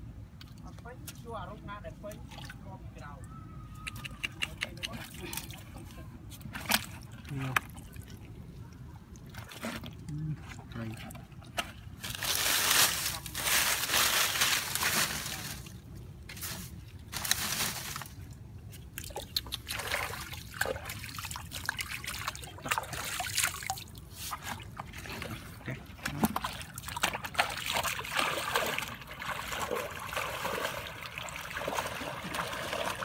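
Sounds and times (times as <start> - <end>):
wading through shallow water: 3.9 - 33.0.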